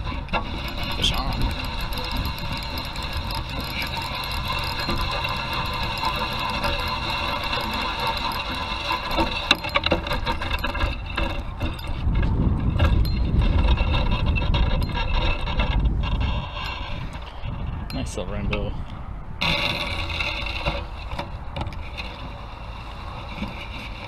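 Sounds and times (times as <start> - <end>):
fishing reel whirring: 0.0 - 18.0, 19.4 - 24.0.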